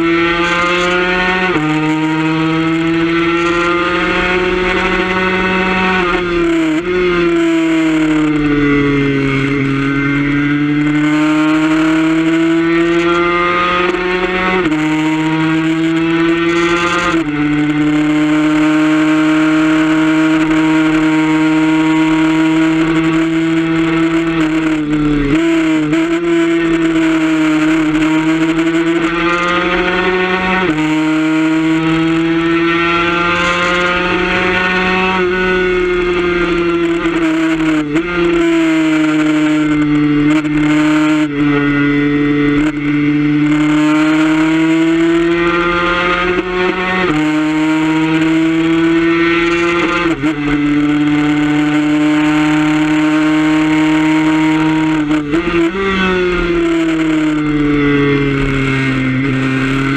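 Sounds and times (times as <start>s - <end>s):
two-stroke engine revving hard: 0.0s - 59.9s.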